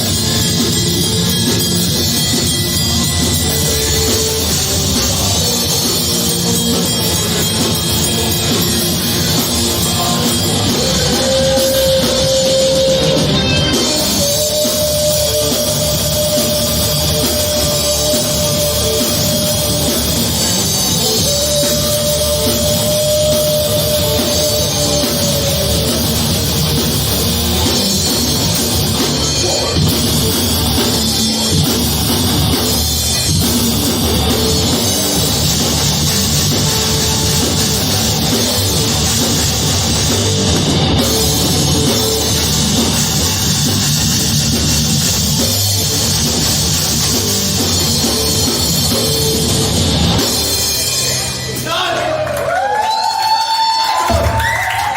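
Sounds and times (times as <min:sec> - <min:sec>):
heavy metal band playing: 0:00.0 - 0:52.7.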